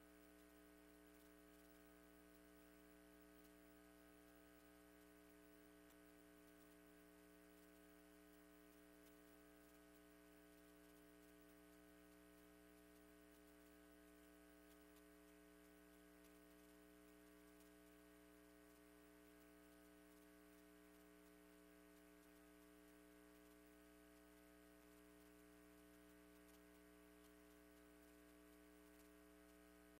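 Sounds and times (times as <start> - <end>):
faint electrical mains hum: 0.0 - 30.0.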